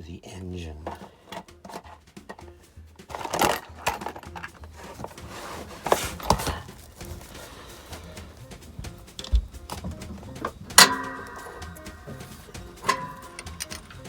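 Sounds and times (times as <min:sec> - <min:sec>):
metal tools clinking and knocking: 0:00.8 - 0:14.0.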